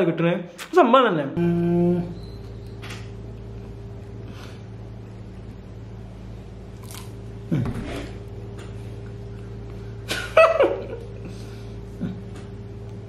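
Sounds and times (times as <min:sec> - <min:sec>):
steady low hum: 0:00.0 - 0:13.0
muffled hum through closed lips: 0:01.4 - 0:13.0.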